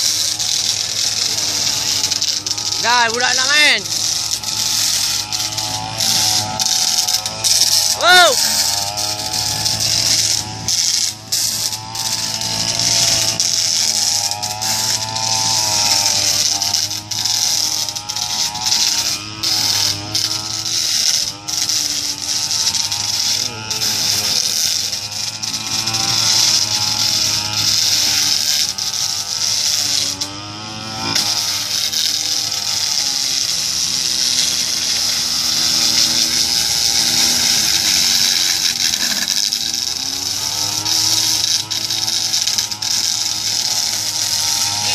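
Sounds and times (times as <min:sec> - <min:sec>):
brush cutter engine running: 0:00.0 - 0:44.9
metal blade grinding concrete: 0:00.0 - 0:44.9.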